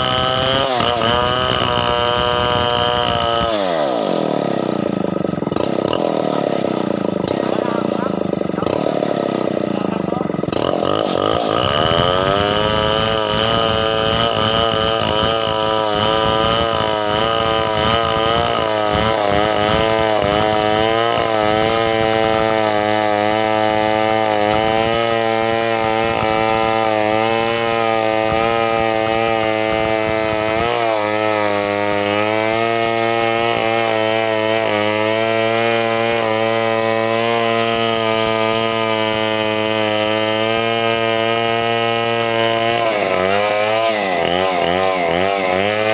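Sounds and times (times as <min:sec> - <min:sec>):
chainsaw engine cutting wood: 0:00.0 - 0:45.9.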